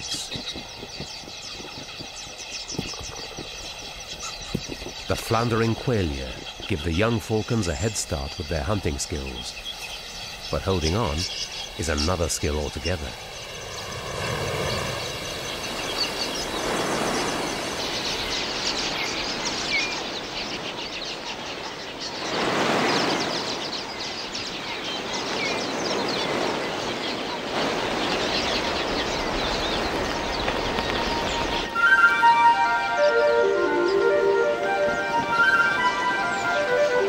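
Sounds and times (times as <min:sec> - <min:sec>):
rush of many wings: 0:00.0 - 0:32.6
flock of birds chirping: 0:00.0 - 0:37.0.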